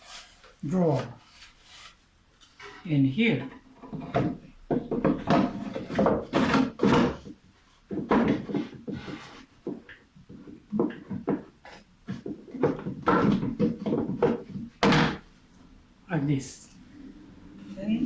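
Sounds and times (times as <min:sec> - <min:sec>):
scrapes rubs and knocks of parts: 0:00.0 - 0:14.8.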